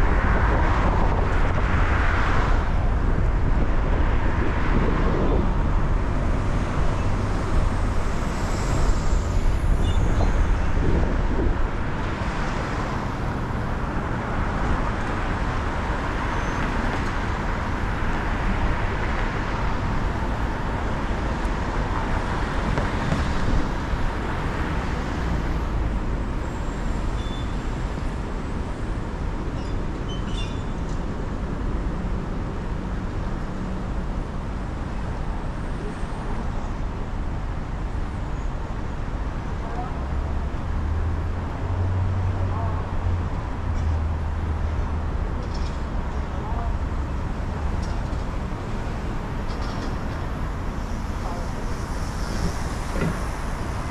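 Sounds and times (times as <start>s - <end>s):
car driving through city traffic: 0.0s - 53.9s.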